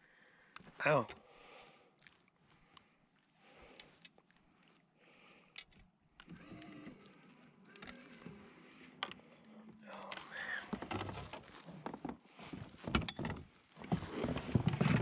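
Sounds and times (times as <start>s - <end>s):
faint clicks and rustles: 0.4s - 15.0s.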